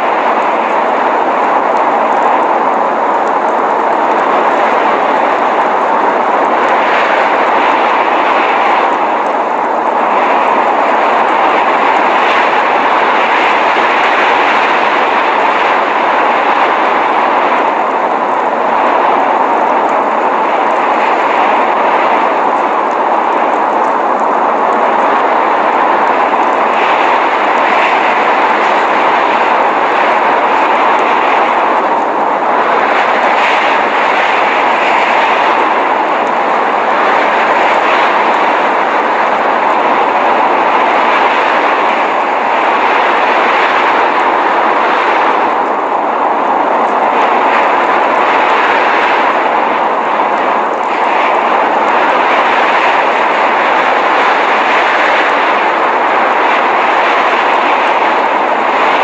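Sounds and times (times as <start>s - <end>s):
snowstorm wind rushing: 0.0s - 59.0s.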